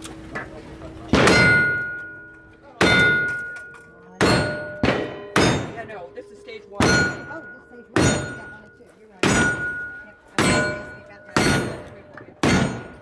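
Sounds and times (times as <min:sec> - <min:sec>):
ringing of struck steel target: 0:01.1 - 0:13.0.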